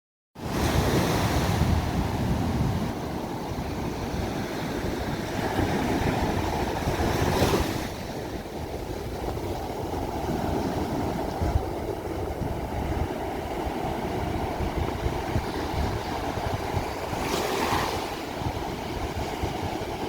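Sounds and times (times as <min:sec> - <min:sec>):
low rumble of surf: 0:00.4 - 0:20.0
ocean waves breaking on shore: 0:00.4 - 0:20.0.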